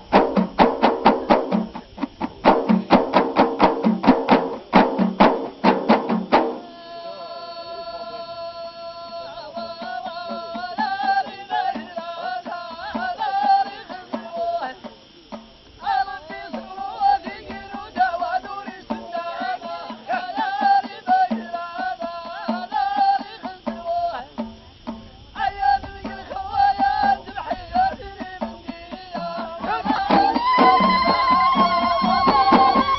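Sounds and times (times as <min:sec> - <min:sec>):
frame drums beating: 0:00.0 - 0:06.7, 0:09.1 - 0:32.9
group singing in unison: 0:00.0 - 0:24.6, 0:25.3 - 0:32.9.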